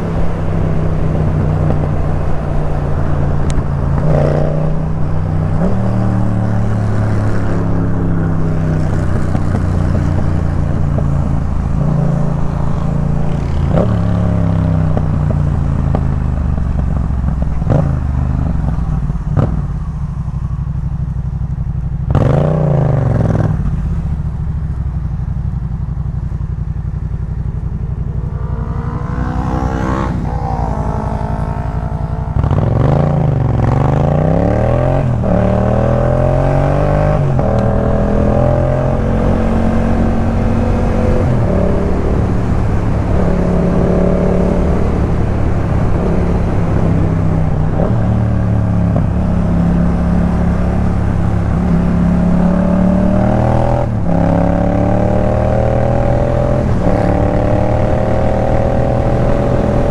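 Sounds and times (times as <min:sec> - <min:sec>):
motorcycle engine on the move: 0:00.0 - 0:59.9.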